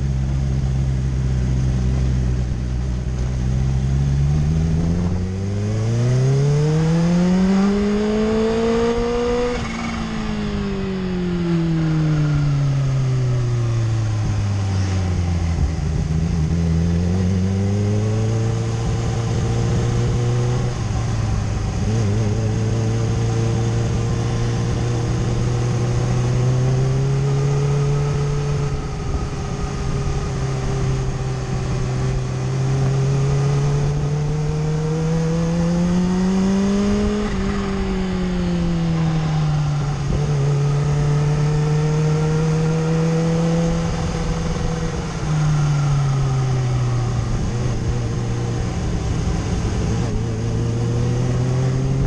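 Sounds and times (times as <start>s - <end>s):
motorcycle engine revving: 0.0s - 52.0s
rushing wind: 0.0s - 52.0s.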